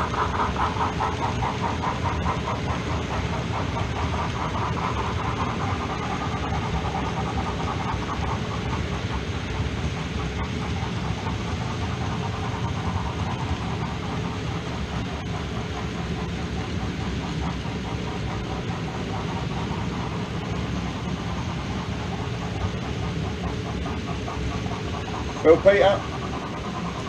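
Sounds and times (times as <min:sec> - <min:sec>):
model train rumbling on track: 0:00.0 - 0:27.0.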